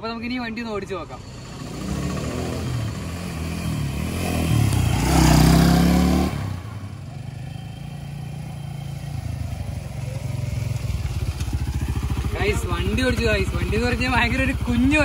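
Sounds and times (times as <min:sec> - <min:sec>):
small motorcycle engine revving: 0:01.2 - 0:15.0.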